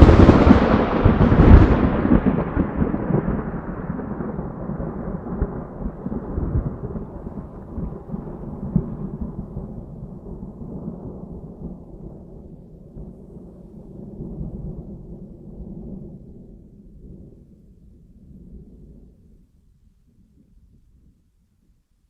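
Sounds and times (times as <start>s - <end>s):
thunderclap with low rumble: 0.0s - 21.4s.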